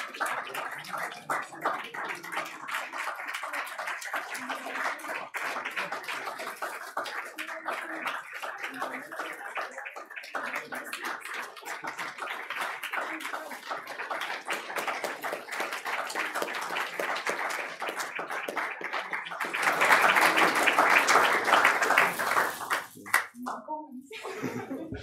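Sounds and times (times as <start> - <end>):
audience applauding: 0.0 - 23.4.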